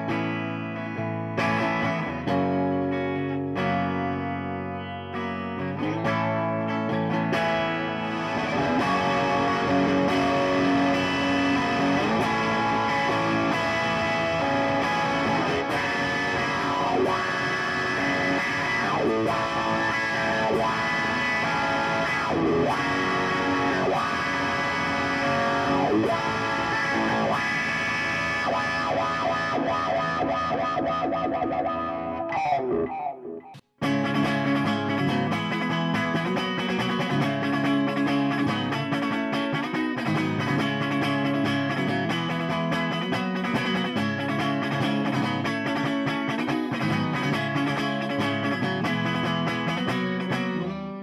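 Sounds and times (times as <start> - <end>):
electric guitar through an amp: 0.0 - 51.0.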